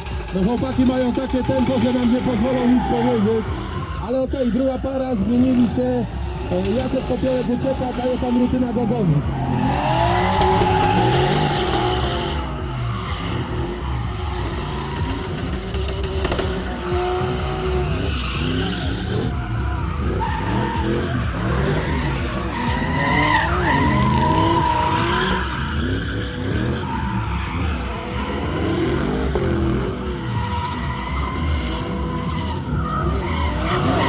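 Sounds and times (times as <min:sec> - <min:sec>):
engines revving hard: 0:00.0 - 0:34.0
tyres squealing: 0:00.0 - 0:34.0.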